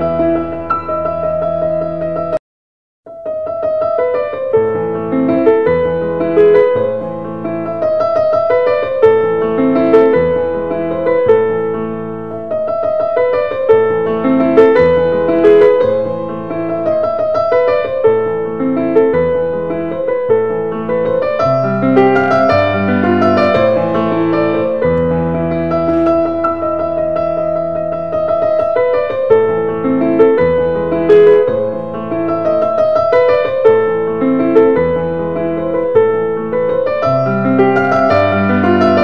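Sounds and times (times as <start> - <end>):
piano music: 0.0 - 2.4, 3.1 - 39.0.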